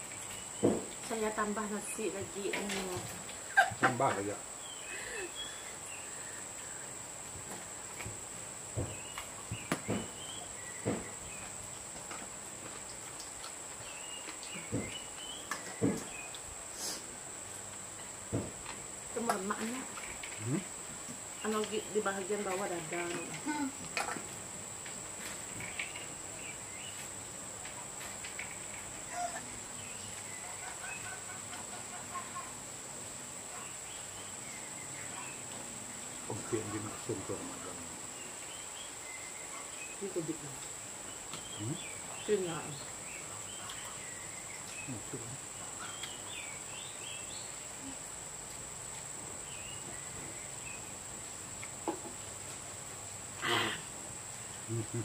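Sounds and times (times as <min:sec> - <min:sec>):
high-pitched insect trill: 0:00.0 - 0:55.0.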